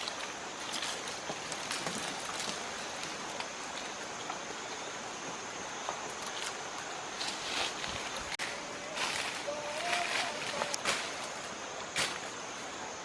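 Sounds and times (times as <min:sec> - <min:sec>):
hiss of falling water: 0:00.0 - 0:13.0.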